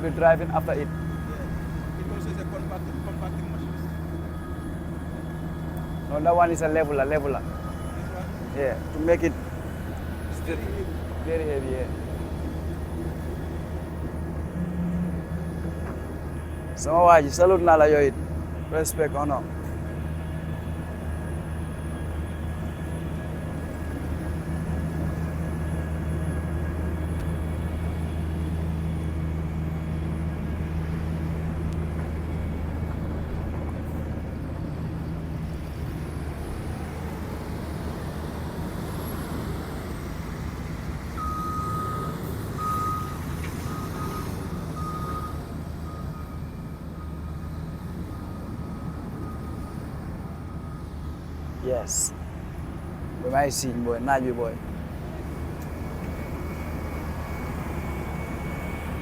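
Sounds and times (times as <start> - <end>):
reversing alarm beeps: 0.0 - 33.5, 41.2 - 52.2, 55.8 - 59.0
diesel machine engine hum: 0.0 - 59.0.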